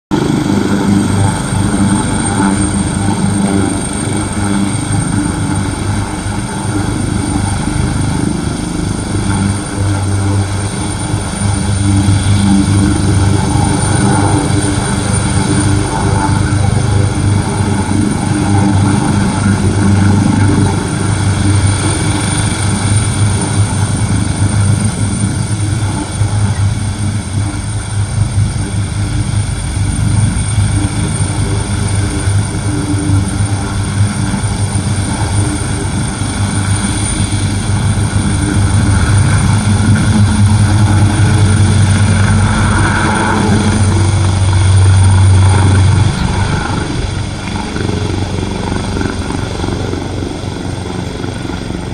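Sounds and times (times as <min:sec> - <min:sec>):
helicopter rotor beat: 0:00.1 - 0:51.9
high turbine whine: 0:00.1 - 0:51.9.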